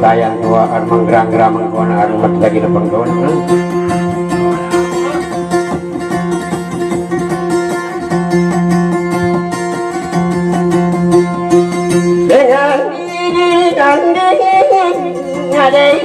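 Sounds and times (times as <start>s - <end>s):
plucked boat lute melody: 0.0s - 16.0s.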